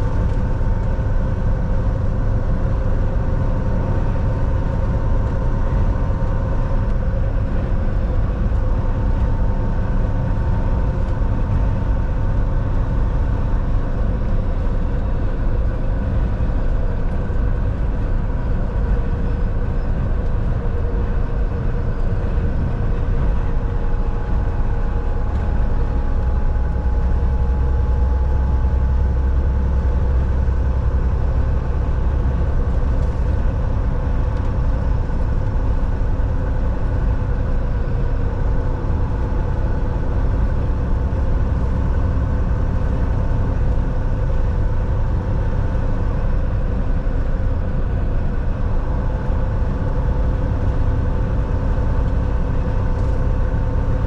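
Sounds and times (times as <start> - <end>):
road rumble: 0.0 - 54.0
truck engine drone: 0.0 - 54.0.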